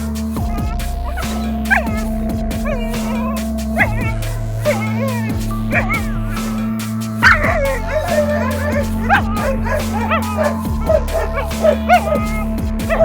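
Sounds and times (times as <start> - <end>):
background music: 0.0 - 13.0
dog barking and yelping: 0.4 - 13.0.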